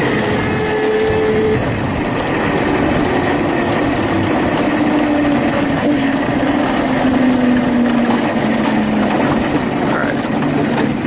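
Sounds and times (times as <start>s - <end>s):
electric motor and chain whining: 0.0s - 11.0s
wind and tyre noise: 0.0s - 11.0s.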